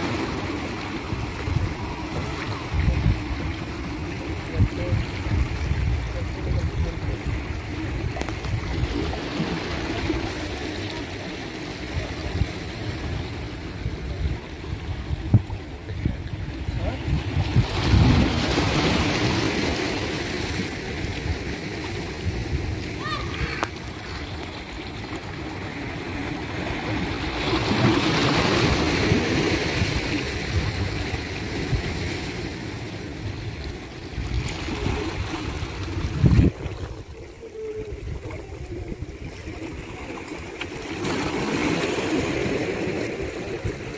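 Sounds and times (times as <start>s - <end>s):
sea waves lapping: 0.0s - 43.9s.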